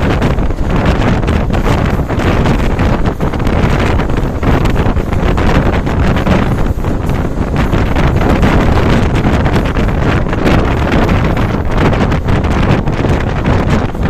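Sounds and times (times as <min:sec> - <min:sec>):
train running noise: 0:00.0 - 0:14.0
wind buffeting microphone: 0:00.0 - 0:14.0.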